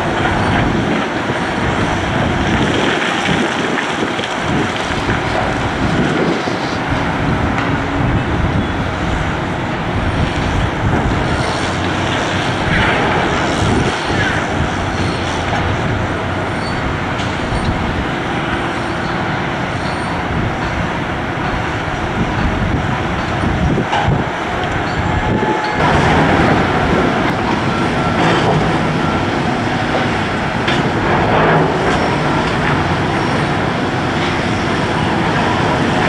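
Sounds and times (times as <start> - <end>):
drilling rig engine and hydraulics: 0.0 - 36.0.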